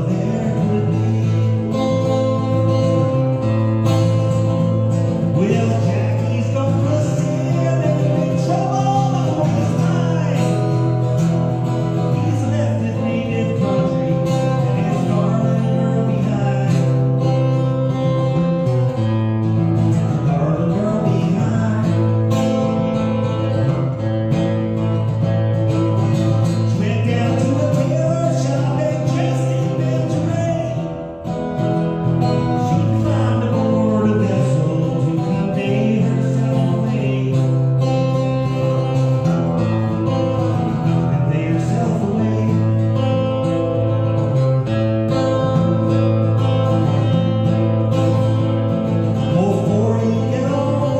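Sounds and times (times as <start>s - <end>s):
guitar strummed: 0.0s - 50.9s
man singing: 0.0s - 50.9s.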